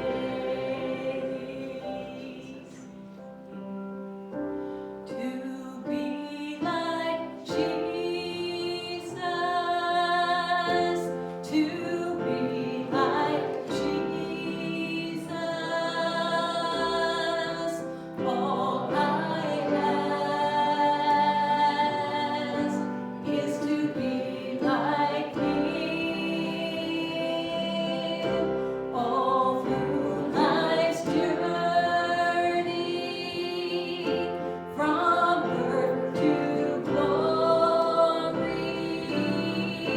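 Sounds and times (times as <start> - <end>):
voices singing a hymn: 0.0 - 3.6, 4.6 - 39.9.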